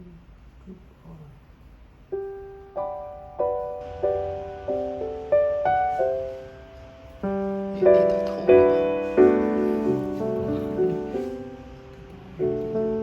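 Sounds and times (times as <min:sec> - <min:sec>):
gentle piano music: 0:02.1 - 0:13.0.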